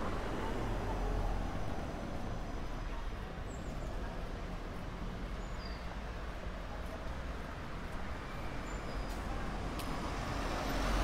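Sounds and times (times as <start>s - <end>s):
distant road traffic rumble: 0.0s - 11.0s.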